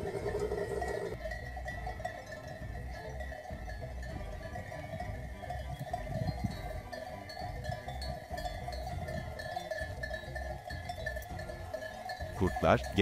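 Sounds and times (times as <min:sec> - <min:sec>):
livestock bells jangling: 0:00.0 - 0:13.0.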